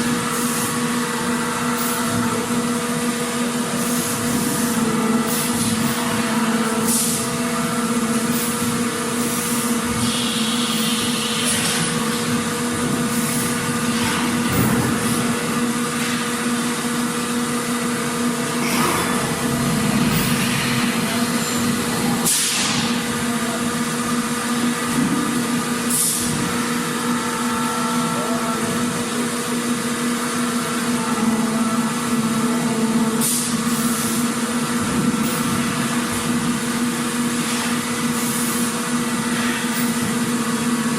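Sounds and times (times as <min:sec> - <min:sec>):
factory machinery humming: 0:00.0 - 0:40.9.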